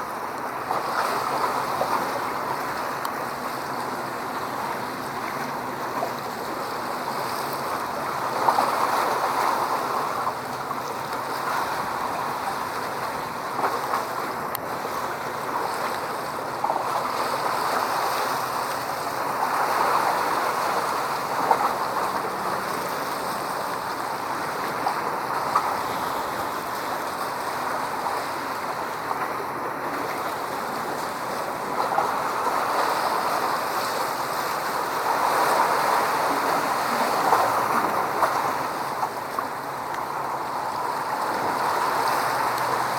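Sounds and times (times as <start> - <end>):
waves rushing: 0.0 - 42.9
wind on open water: 0.0 - 42.9.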